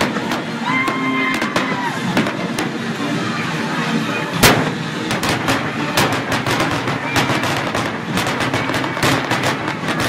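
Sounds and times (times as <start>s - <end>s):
firework bangs and crackles: 0.0s - 10.0s.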